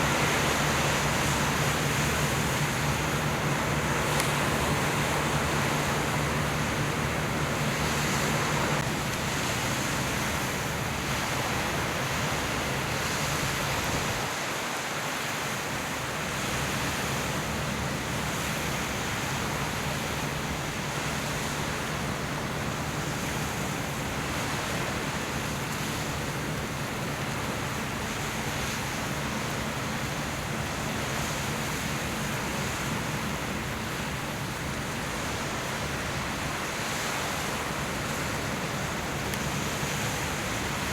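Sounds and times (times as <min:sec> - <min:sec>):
sea waves washing: 0:00.0 - 0:40.9.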